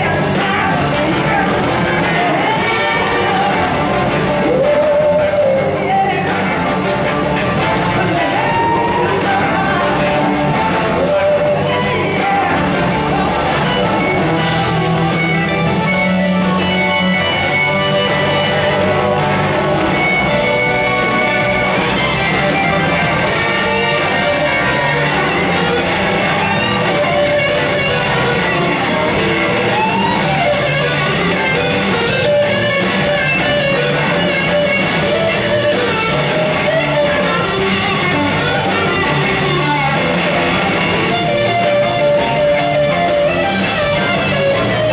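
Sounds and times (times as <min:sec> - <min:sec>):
drums: 0:00.0 - 0:44.9
electric guitars: 0:00.0 - 0:44.9
keyboards: 0:00.0 - 0:44.9.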